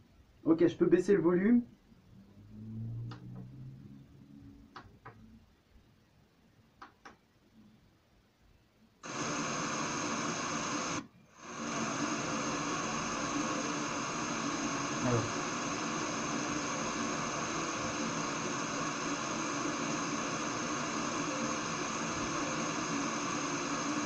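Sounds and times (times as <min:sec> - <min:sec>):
speaker static hiss: 0:00.0 - 0:24.0.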